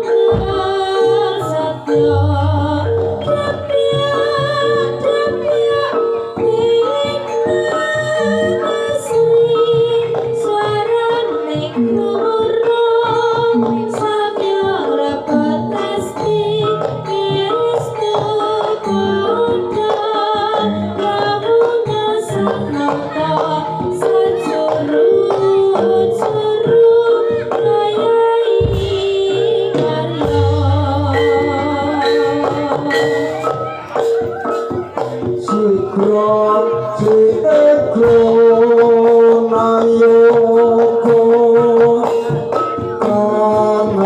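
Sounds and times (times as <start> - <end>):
drum strokes: 0.0 - 8.2, 8.8 - 44.0
held melodic notes: 0.0 - 44.0
person singing wavering melody: 0.0 - 44.0.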